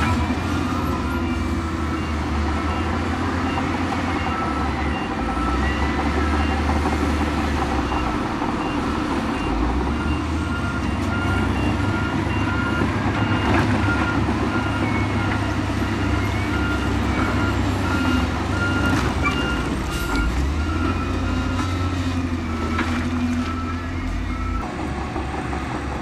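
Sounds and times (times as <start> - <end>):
reversing alarm beeping: 0.0 - 24.7
heavy machinery diesel engine: 0.0 - 26.0.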